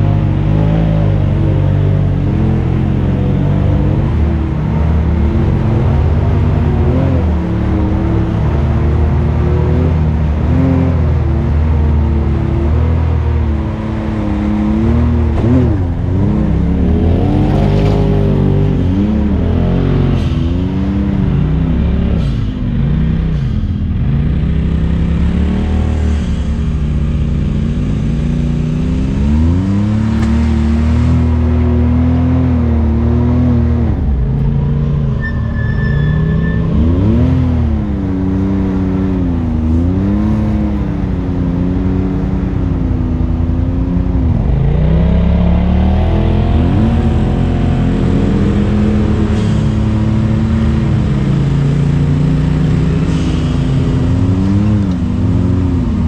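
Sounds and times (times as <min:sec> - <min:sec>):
utility vehicle engine revving: 0:00.0 - 0:56.0.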